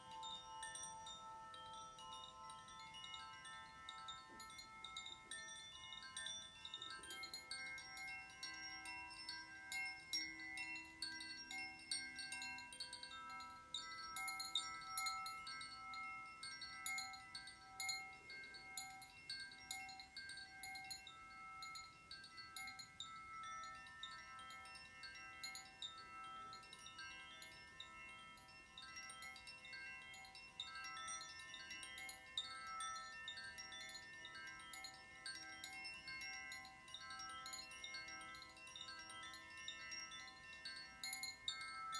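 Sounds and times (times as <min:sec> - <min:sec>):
chimes tinkling: 0:00.0 - 0:41.9.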